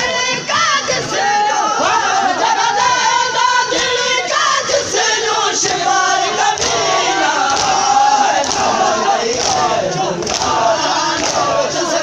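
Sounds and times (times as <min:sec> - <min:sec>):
crowd chanting a lament: 0:00.0 - 0:12.0
rhythmic chest-beating slaps: 0:00.0 - 0:12.0.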